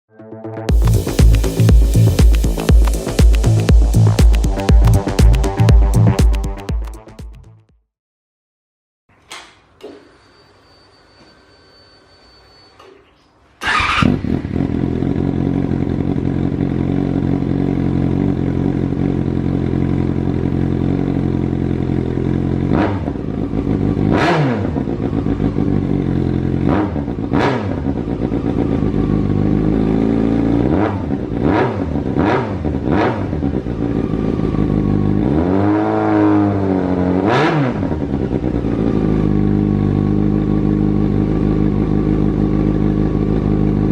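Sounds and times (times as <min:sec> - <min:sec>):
motorcycle engine idling and revving: 0:00.7 - 0:06.7, 0:13.6 - 0:43.9.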